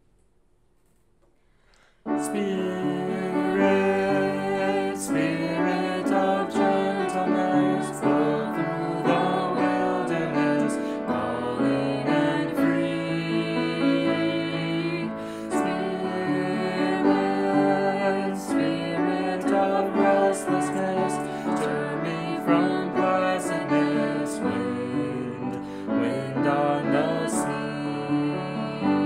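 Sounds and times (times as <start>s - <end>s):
piano hymn accompaniment: 2.0s - 29.0s.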